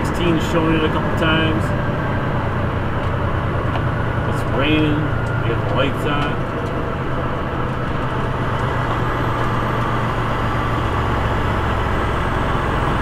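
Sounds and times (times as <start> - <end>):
diesel engine running: 0.0 - 13.0
road noise: 0.0 - 13.0.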